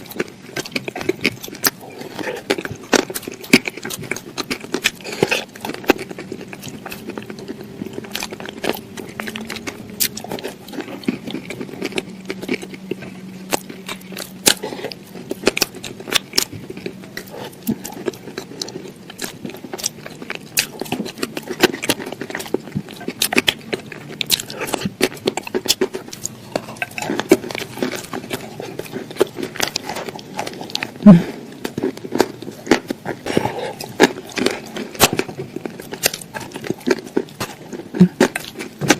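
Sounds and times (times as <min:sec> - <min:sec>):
crunching and chewing food: 0:00.0 - 0:38.9
faint low hum: 0:00.0 - 0:38.9.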